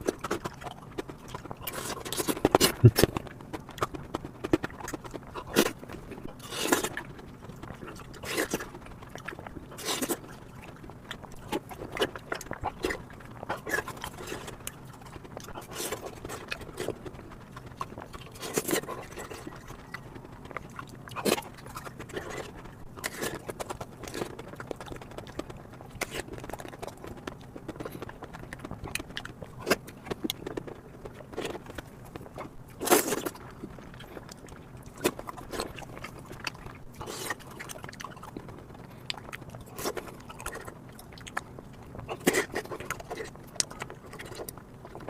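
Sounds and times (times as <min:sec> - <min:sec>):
chewing and mouth smacks: 0:00.0 - 0:45.0
person eating ice cream: 0:00.0 - 0:45.0.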